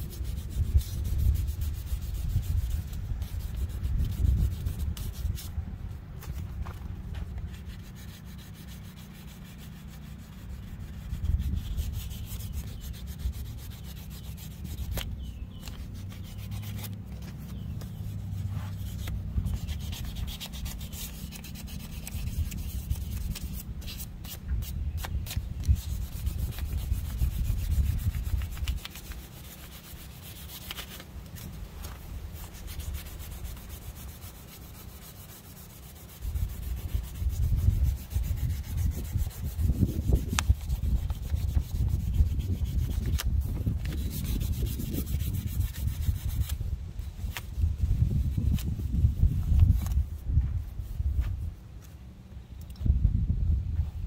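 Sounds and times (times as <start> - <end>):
sandpaper rubbing on metal: 0.0 - 5.6, 7.4 - 51.3.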